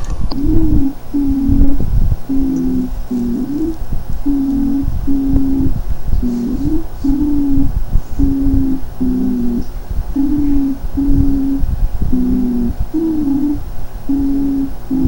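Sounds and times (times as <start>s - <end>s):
low rumble: 0.0s - 15.0s
child's harsh stridor breathing: 0.4s - 15.0s.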